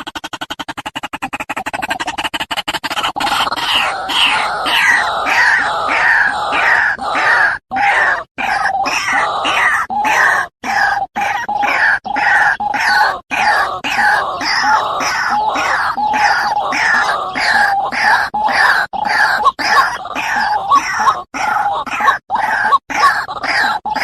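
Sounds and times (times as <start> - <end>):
waterhen harsh croaking calls: 0.0 - 24.0.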